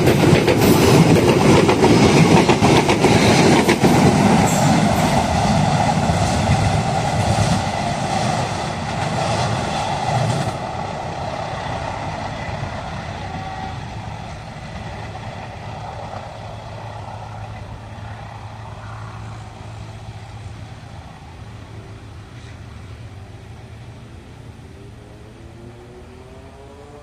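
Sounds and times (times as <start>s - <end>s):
passing train running noise: 0.0s - 27.0s.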